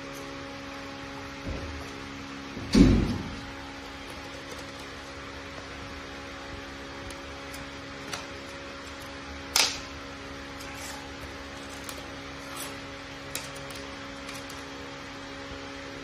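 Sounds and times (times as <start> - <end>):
electrical hum and hiss: 0.0 - 16.0.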